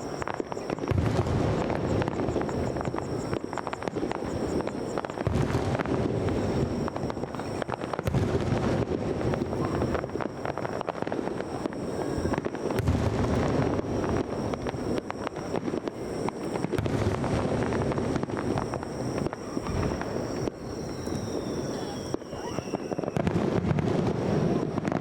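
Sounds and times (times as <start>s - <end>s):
fireworks crackling and popping: 0.0s - 25.0s
low rumble of fireworks bursts: 0.0s - 25.0s.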